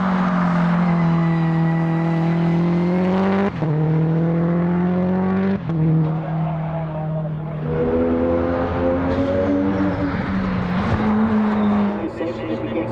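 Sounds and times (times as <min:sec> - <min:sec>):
race car engine accelerating: 0:00.0 - 0:12.9.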